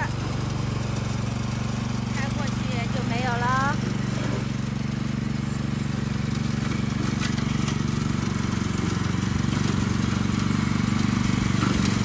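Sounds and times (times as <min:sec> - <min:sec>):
riding lawn mower engine humming: 0:00.0 - 0:12.0.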